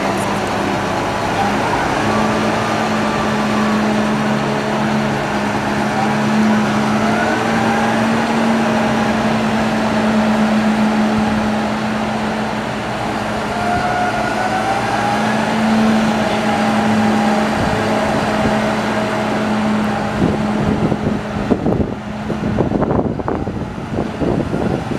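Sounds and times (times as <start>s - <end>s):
rising and falling whine: 0.0s - 24.9s
tractor engine driving by: 0.0s - 24.9s
wind buffeting microphone: 0.0s - 24.9s.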